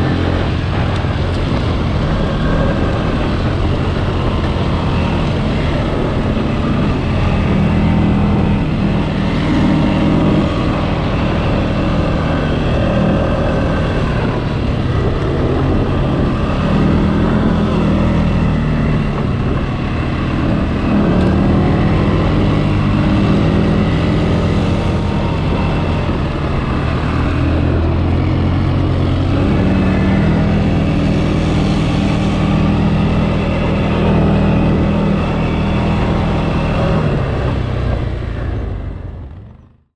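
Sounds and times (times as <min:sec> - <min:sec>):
atv engine revving: 0:00.0 - 0:39.8.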